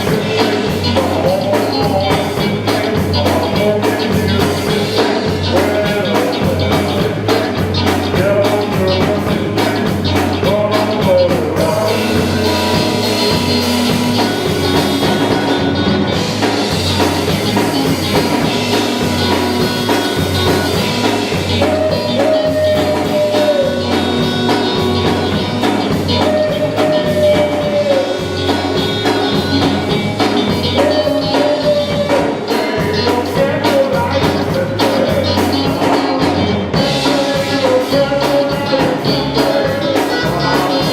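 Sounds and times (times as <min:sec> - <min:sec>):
drums and bass beat: 0:00.0 - 0:40.9.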